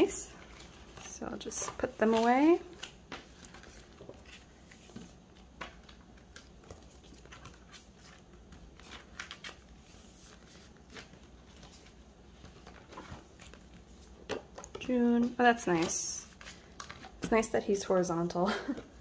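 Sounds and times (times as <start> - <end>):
plastic binder sleeves rustling: 0.0 - 17.7.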